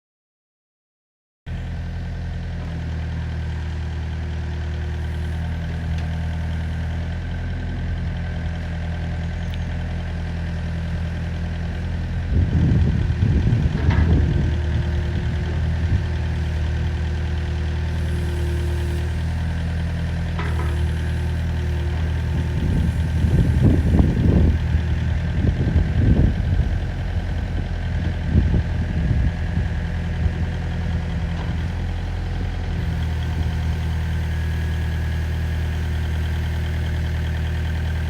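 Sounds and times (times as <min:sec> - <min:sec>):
diesel excavator engine idling: 0:01.5 - 0:38.0.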